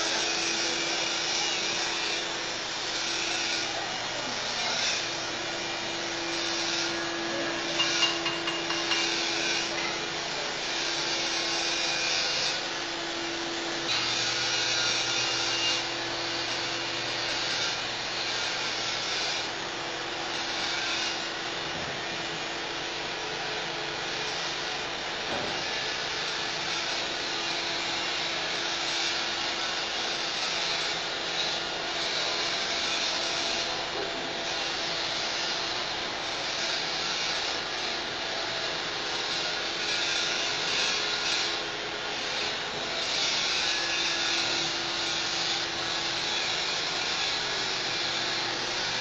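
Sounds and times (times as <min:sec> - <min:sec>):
welding arc crackling sizzle: 0:00.0 - 0:49.0.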